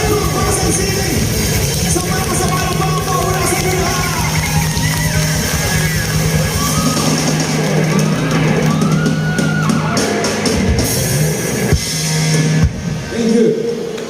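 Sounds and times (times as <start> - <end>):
drum and cymbal hits: 0.0 - 13.2
live rock band playing: 0.0 - 13.9.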